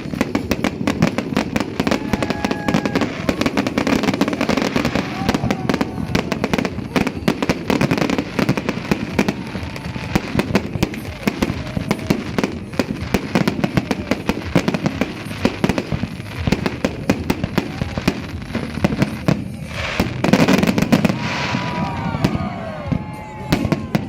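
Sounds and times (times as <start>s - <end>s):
fireworks and firecrackers banging: 0.0s - 24.0s.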